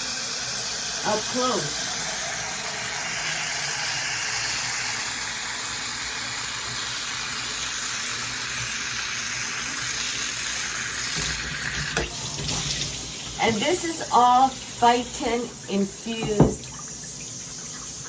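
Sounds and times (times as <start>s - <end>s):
shower head spraying water: 0.0s - 18.0s.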